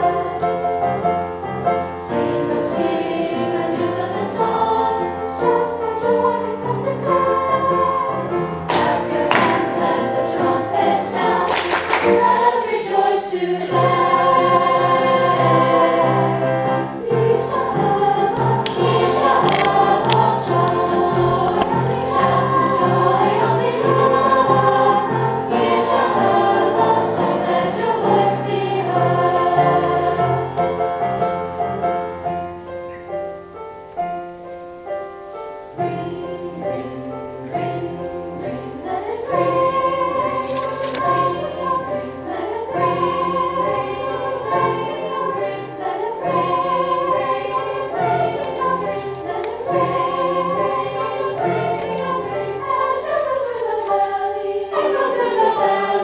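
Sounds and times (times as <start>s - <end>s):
choir singing in parts: 0.0s - 32.3s, 35.7s - 56.0s.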